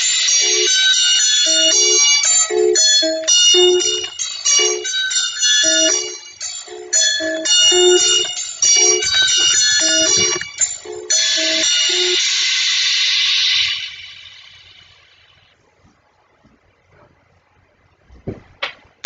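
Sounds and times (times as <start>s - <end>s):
bell-like pitched notes: 0.0s - 15.5s.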